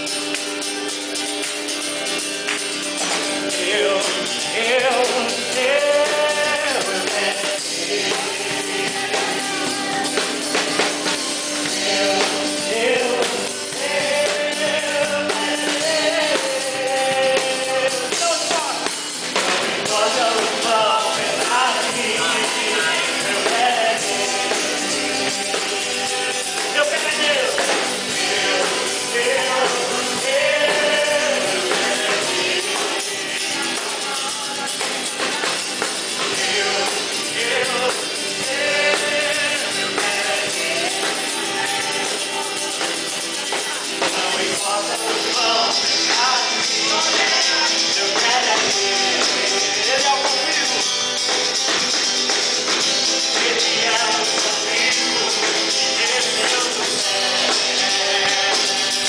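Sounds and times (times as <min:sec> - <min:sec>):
acoustic guitar: 0:00.0 - 0:59.0
drum kit: 0:00.0 - 0:59.0
high jingling percussion: 0:00.0 - 0:59.0
man singing into a microphone: 0:03.5 - 0:10.2, 0:11.6 - 0:19.0, 0:19.8 - 0:42.9, 0:43.7 - 0:50.9, 0:53.3 - 0:59.0.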